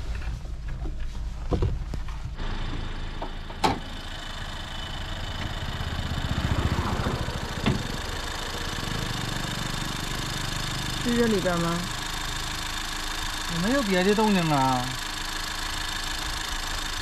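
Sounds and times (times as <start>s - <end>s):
engine idling: 2.4s - 17.0s.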